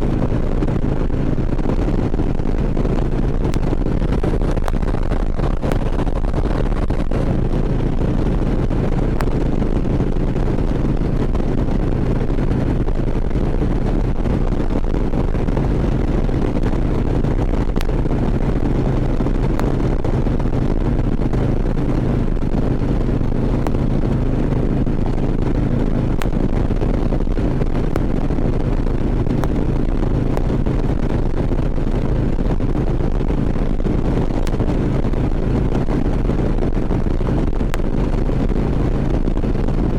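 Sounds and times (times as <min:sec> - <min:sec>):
motorcycle engine running: 0:00.0 - 0:39.9
road noise: 0:00.0 - 0:39.9
wind noise on microphone: 0:00.0 - 0:39.9.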